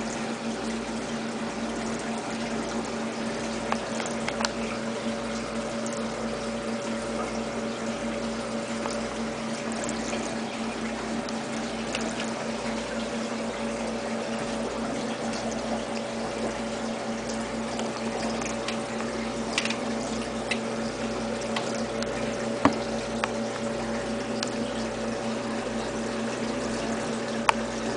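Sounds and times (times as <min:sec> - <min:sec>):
electric hum: 0:00.0 - 0:27.9
water trickling: 0:00.0 - 0:27.9.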